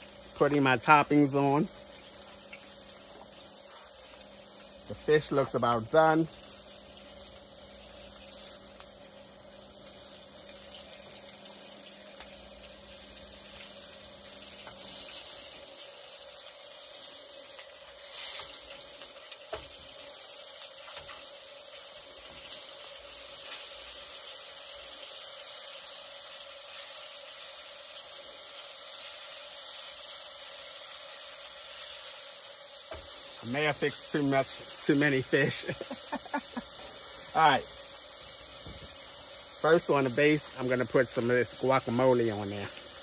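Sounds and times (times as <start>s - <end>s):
fish sizzling in a pan: 0.0s - 43.0s.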